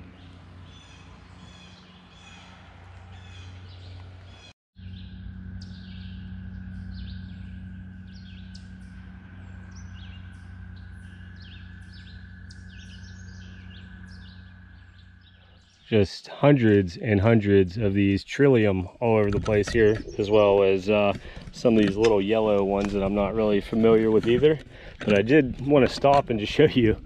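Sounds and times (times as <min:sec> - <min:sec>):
songbirds singing: 0:00.0 - 0:27.0
steady low hum: 0:00.0 - 0:27.0.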